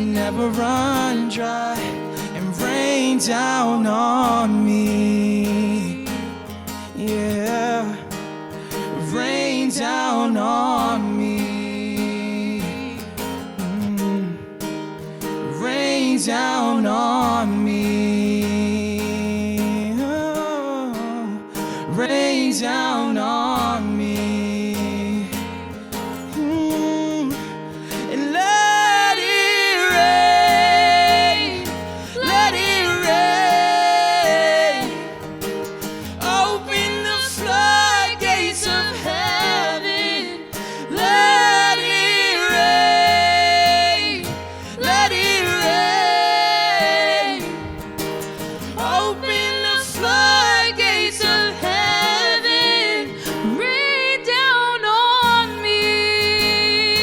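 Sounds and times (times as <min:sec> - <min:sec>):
person singing: 0:00.0 - 0:06.3, 0:06.9 - 0:14.5, 0:15.4 - 0:25.6, 0:26.3 - 0:57.0
strummed guitar: 0:00.0 - 0:57.0.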